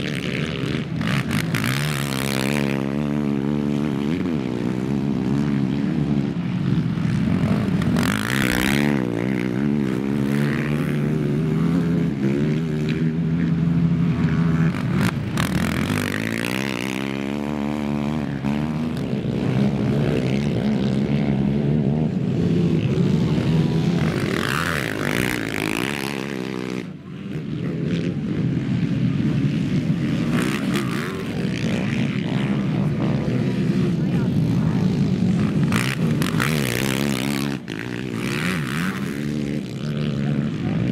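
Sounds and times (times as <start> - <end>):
quad engines revving: 0.0 - 40.9.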